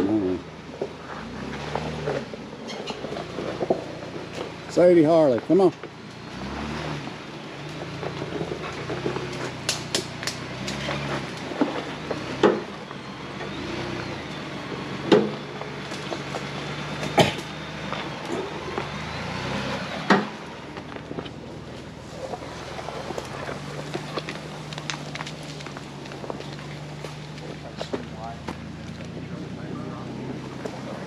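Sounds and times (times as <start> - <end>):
off-road vehicle engine at low revs: 0.0 - 31.0.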